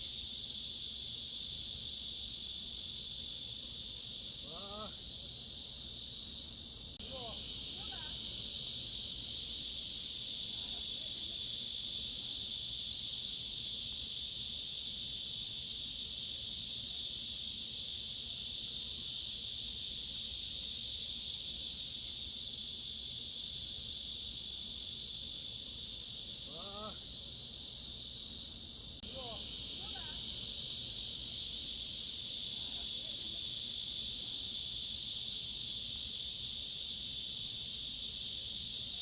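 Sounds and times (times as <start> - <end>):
cicadas shrilling: 0.0 - 39.0.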